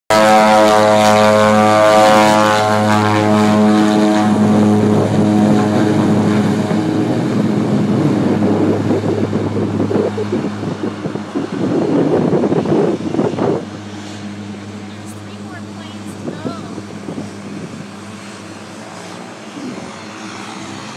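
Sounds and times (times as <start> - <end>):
turboprop engines drone: 0.1 - 20.9.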